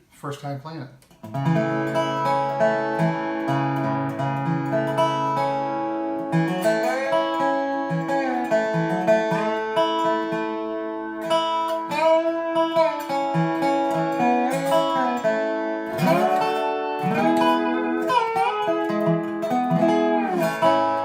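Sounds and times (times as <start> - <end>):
resonator guitar sliding melody: 1.2 - 21.0.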